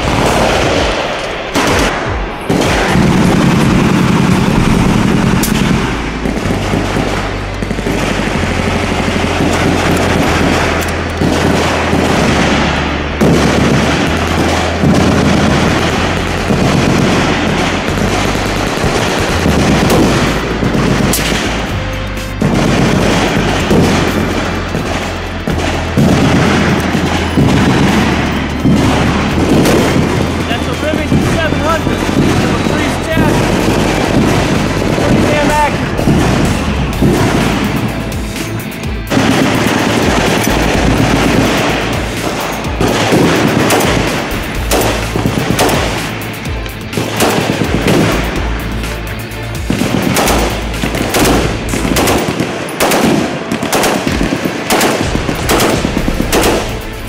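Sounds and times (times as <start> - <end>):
background music with deep bass: 0.0 - 57.0
machine-gun fire bursts: 0.0 - 57.0.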